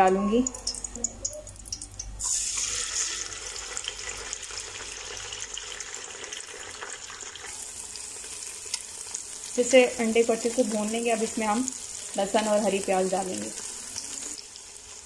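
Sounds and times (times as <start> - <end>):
eggs sizzling in oil: 0.0 - 15.0.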